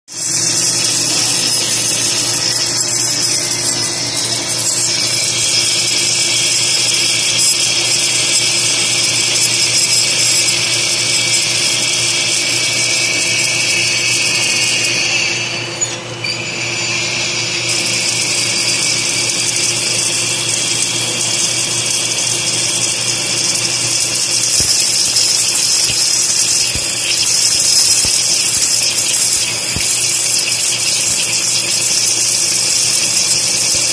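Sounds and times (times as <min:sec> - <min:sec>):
machine high hiss: 0:00.1 - 0:33.9.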